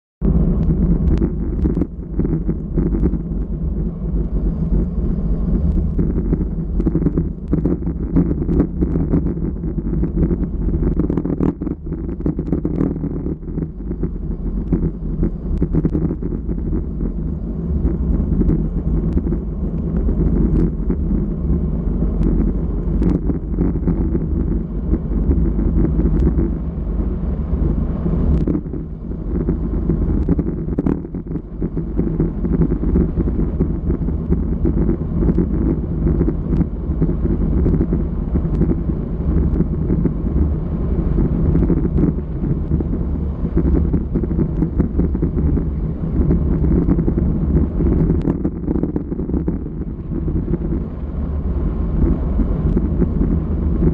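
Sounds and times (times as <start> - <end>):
wind buffeting microphone: 0.2 - 53.9.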